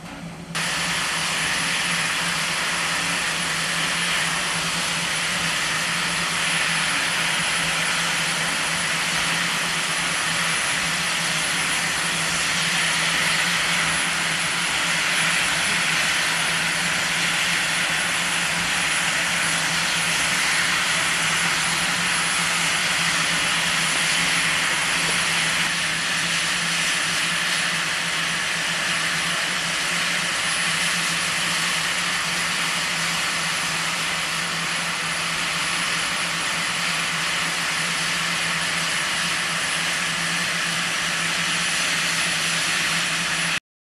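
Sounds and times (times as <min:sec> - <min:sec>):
steam hissing from locomotive: 0:00.6 - 0:43.6.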